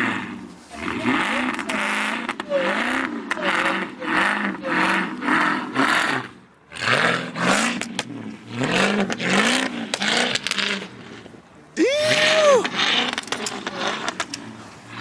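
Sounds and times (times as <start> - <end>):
car engine revving: 0.0 - 15.0
tyres spinning in snow: 0.0 - 15.0.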